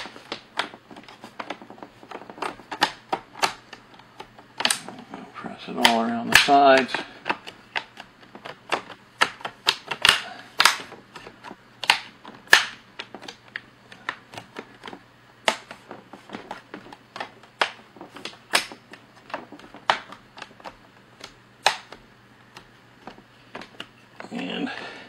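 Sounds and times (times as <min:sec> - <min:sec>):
plastic clips snapping into place: 0:00.0 - 0:04.9, 0:05.8 - 0:23.9.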